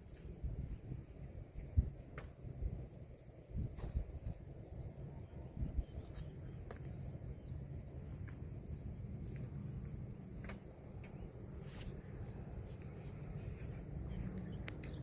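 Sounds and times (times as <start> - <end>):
high insect-like whine: 0.0 - 15.0
steady low rumble: 0.0 - 15.0.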